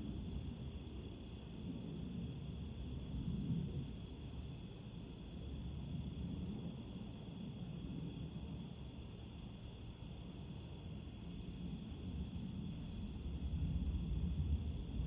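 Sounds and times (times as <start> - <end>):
faint crickets chirping: 0.0 - 15.0.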